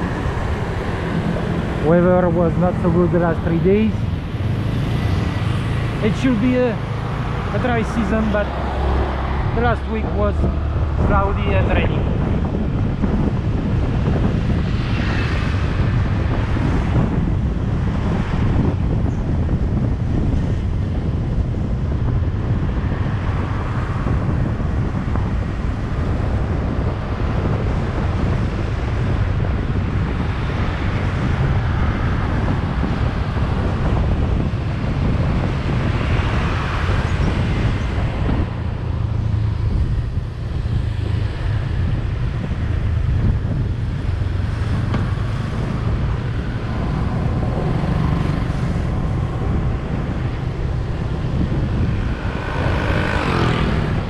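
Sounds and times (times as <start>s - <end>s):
vehicle driving rumble: 0.0s - 54.0s
wind buffeting microphone: 0.0s - 54.0s.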